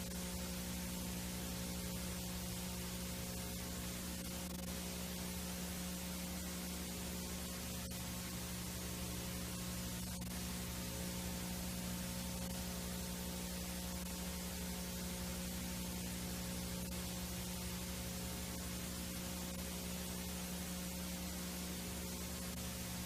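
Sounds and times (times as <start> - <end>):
low electrical hum: 0.0 - 23.0
tape playback hiss: 0.0 - 23.0.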